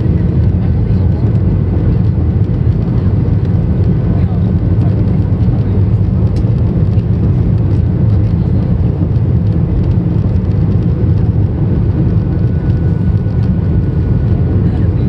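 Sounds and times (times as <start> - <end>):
airliner cabin engine roar: 0.0 - 15.0.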